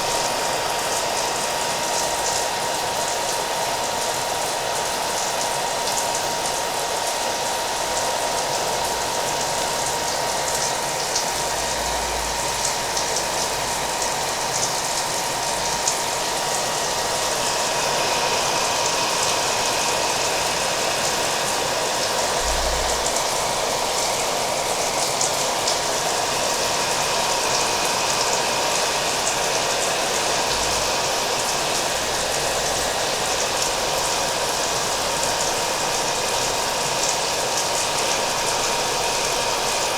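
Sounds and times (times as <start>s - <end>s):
hair dryer whine: 0.0s - 39.9s.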